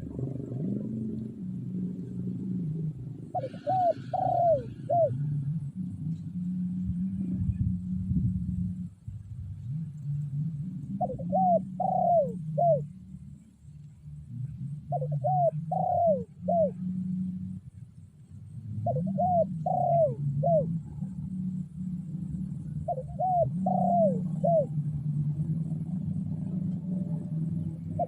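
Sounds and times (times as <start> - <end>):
dove cooing: 0.0 - 13.4, 14.0 - 28.0
steady low hum: 0.0 - 28.0.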